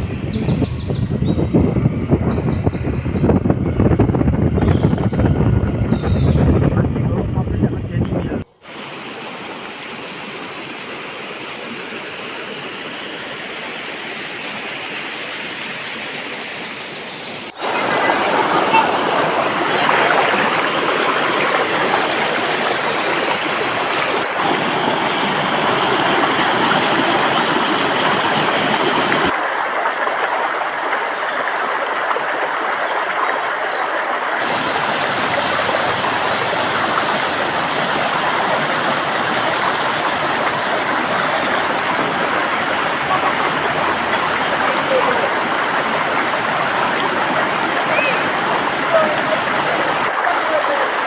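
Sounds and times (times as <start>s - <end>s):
stream water rushing: 8.6s - 51.0s.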